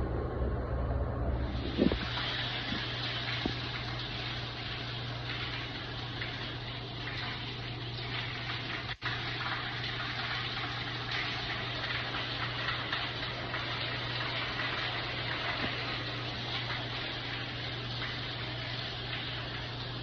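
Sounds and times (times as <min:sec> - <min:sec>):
steady low hum: 0:00.0 - 0:20.0
water spraying: 0:01.5 - 0:20.0.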